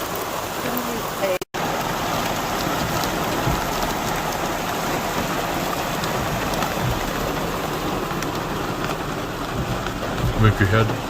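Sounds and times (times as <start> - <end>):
rain on hard surfaces: 0.0 - 11.0
sharp ticks of raindrops: 0.0 - 11.0.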